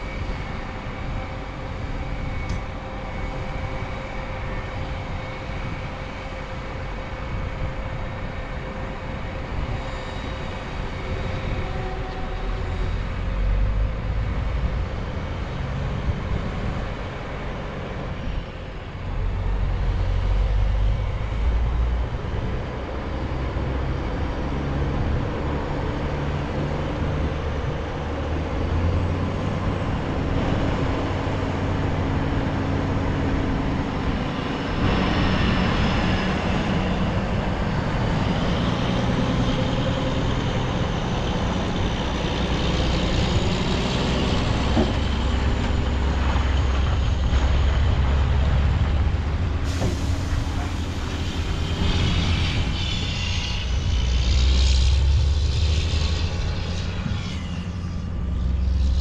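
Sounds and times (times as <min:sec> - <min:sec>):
diesel engines running: 0:00.0 - 0:59.0
machine engine whine: 0:00.0 - 0:59.0.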